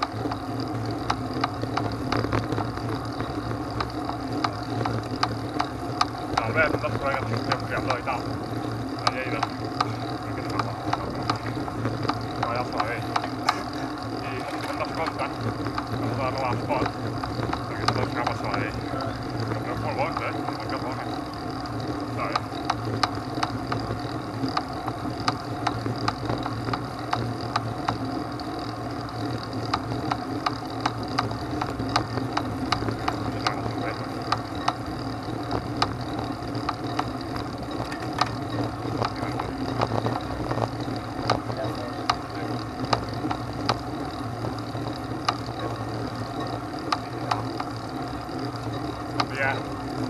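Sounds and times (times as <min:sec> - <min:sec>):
vehicle engine running: 0:00.0 - 0:50.0.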